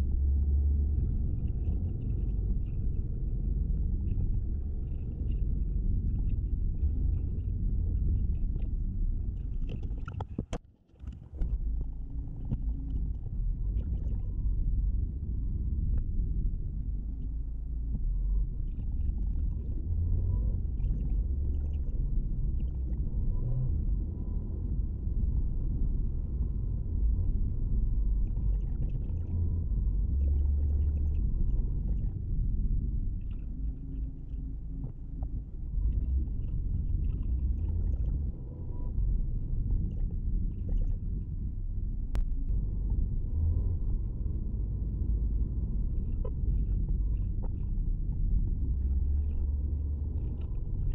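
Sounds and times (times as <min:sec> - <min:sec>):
car road and engine rumble: 0:00.0 - 0:50.9.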